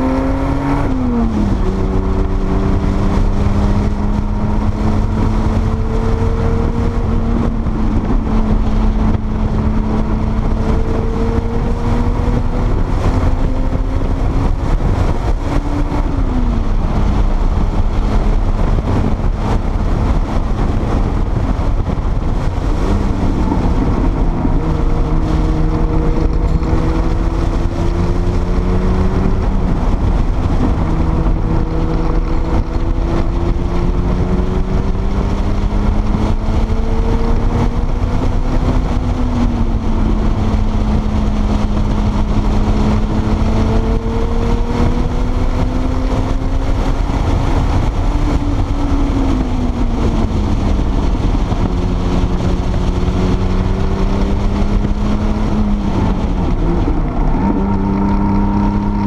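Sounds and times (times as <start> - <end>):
car engine at speed: 0.0 - 59.0
wind and road noise: 0.0 - 59.0.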